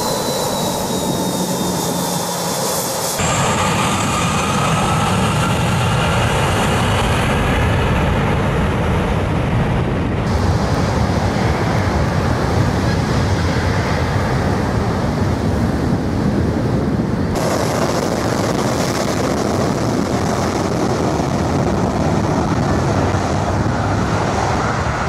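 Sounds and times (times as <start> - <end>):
jet blast buffeting microphone: 0.0 - 25.0
jet engines at high thrust: 0.0 - 25.0.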